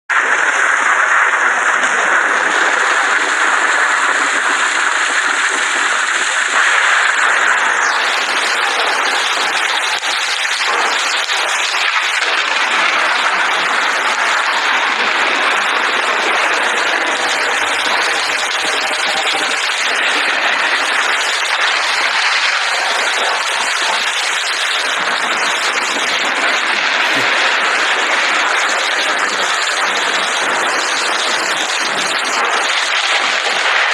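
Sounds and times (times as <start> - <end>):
steady rain hiss: 0.1 - 33.9.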